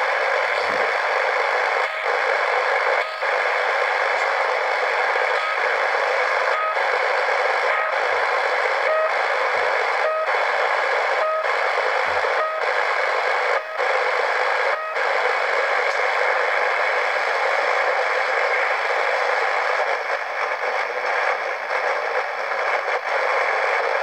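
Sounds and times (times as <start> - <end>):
radio static hiss: 0.0 - 24.0
short radio blips: 0.0 - 24.0.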